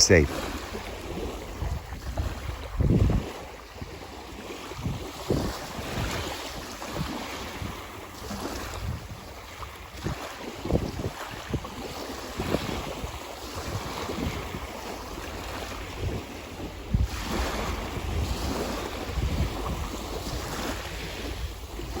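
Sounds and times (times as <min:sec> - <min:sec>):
ocean waves breaking on shore: 0:00.0 - 0:22.0
wind buffeting microphone: 0:00.0 - 0:22.0.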